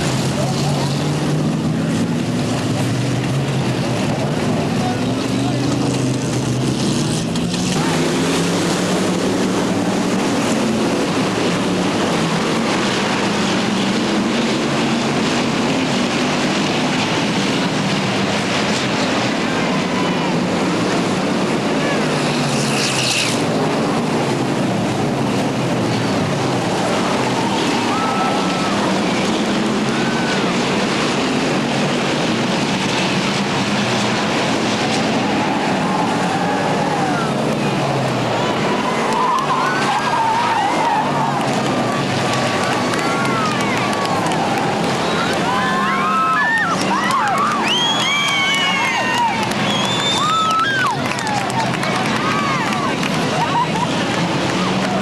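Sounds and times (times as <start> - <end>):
stock car engines racing: 0.0 - 55.0.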